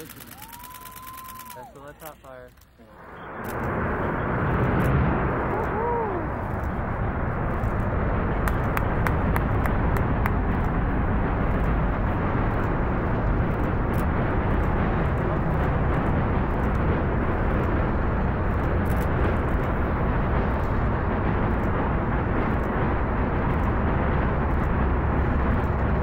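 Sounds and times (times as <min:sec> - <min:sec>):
rocket engines rumbling: 0:00.0 - 0:26.0
sharp crackles: 0:00.0 - 0:26.0.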